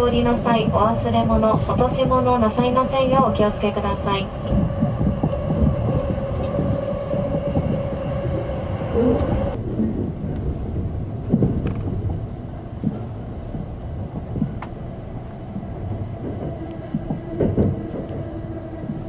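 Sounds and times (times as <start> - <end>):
train knocks: 0.0 - 19.0
train wheels rumbling on rails: 0.0 - 19.0.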